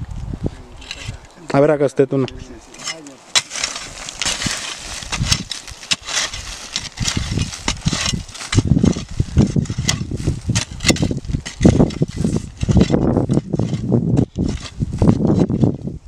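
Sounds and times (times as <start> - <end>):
hoe blade chopping soil: 2.8 - 15.7.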